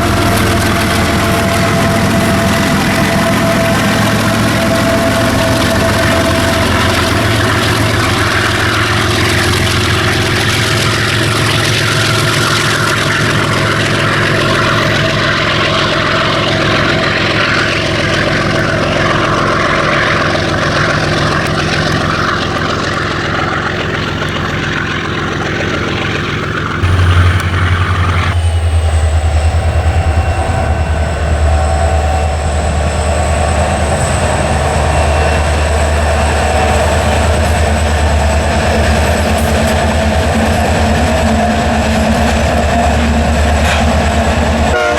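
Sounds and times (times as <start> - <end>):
high whine: 0.0 - 21.4, 26.8 - 44.9
rolling wagons rumbling: 0.0 - 44.8
diesel locomotive engine drone: 0.0 - 44.9.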